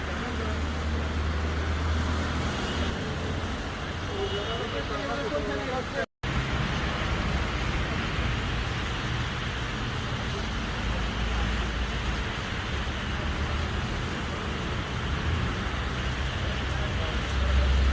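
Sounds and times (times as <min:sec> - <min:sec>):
low rumble of road traffic: 0:00.0 - 0:17.9
steady rain: 0:00.0 - 0:17.9.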